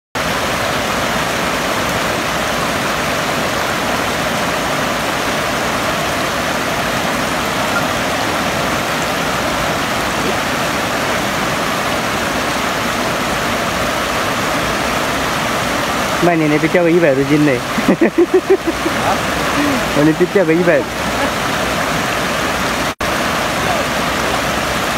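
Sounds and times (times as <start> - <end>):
river water rushing over weir: 0.2 - 24.9.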